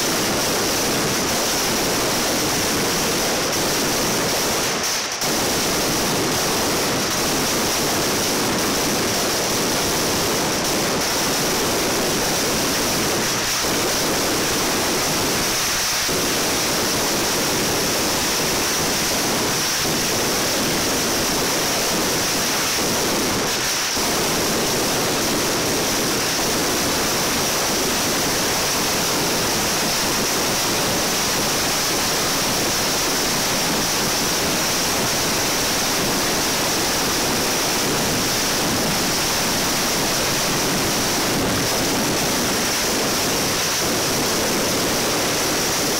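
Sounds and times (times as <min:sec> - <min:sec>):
firecrackers barrage: 0:00.0 - 0:45.9.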